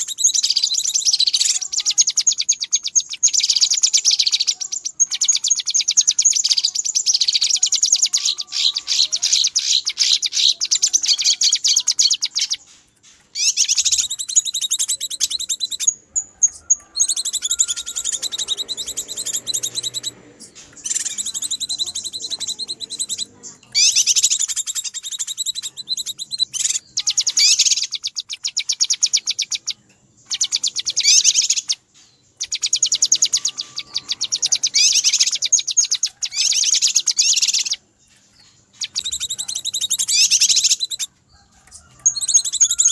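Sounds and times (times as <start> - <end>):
bird chattering: 0.0 - 42.9.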